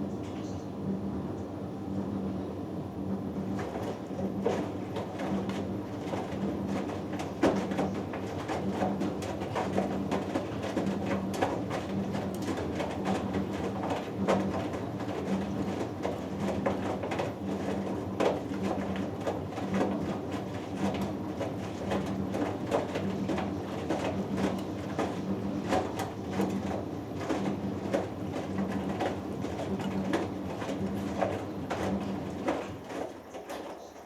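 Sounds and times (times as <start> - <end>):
washing machine motor humming: 0.0 - 34.0
wet laundry thudding in drum: 3.6 - 33.9.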